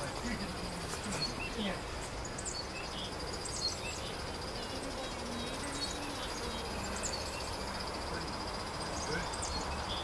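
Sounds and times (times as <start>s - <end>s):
bird chirps: 0.0s - 10.0s
insects trilling: 0.0s - 10.0s
low background hiss: 0.0s - 10.0s.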